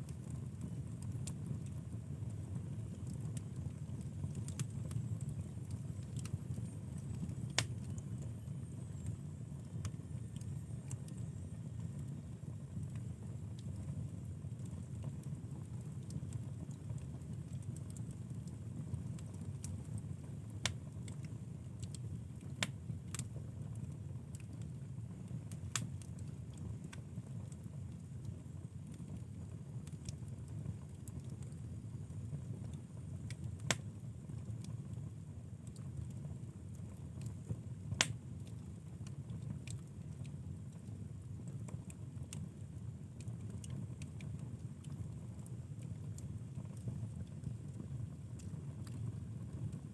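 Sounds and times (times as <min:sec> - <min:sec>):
fire low steady noise: 0:00.0 - 0:49.9
wood fire crackling and popping: 0:00.0 - 0:49.9.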